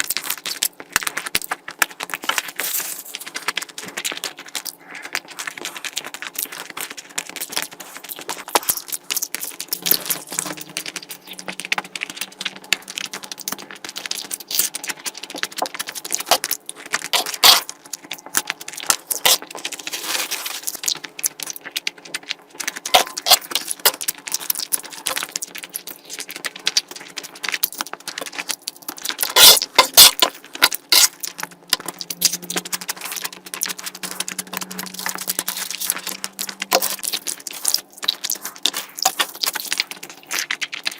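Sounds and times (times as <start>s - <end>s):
wet chewing: 0.0s - 40.9s.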